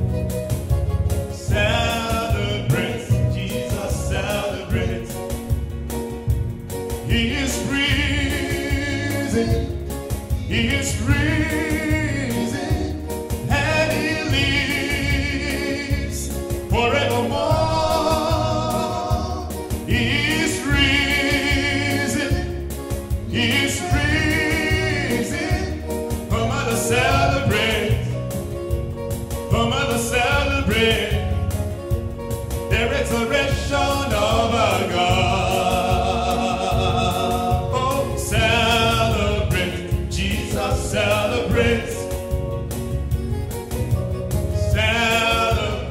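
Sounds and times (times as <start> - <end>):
instrumental backing with low beat: 0.0 - 45.9
man singing gospel song: 1.3 - 5.8, 6.7 - 42.7, 44.4 - 45.9.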